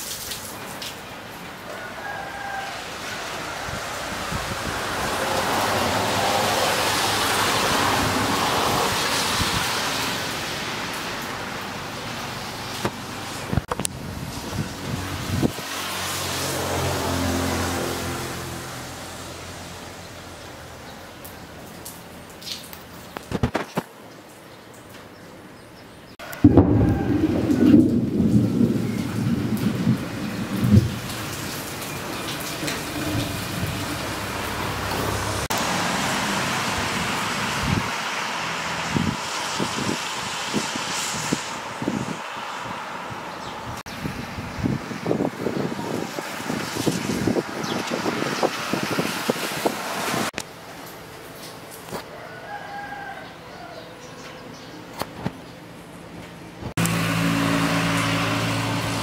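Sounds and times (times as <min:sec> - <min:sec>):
rain falling: 0:00.0 - 0:53.2, 0:56.7 - 0:59.0.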